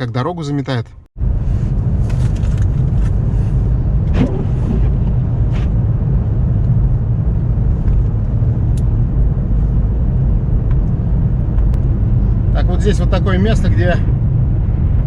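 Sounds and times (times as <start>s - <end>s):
car cabin rumble: 1.2s - 15.0s.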